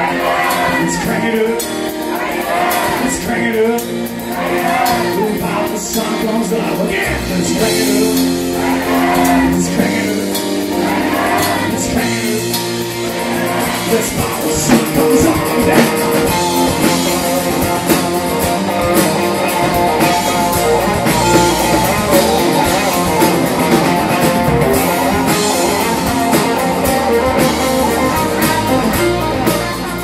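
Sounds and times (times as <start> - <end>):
bass guitar: 0.0 - 30.0
drum kit steady beat: 0.0 - 30.0
electric guitar: 0.0 - 30.0.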